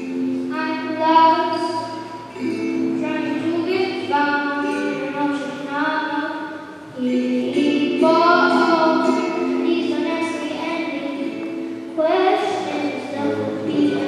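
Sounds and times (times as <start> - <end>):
girl singing into microphone: 0.0 - 14.0.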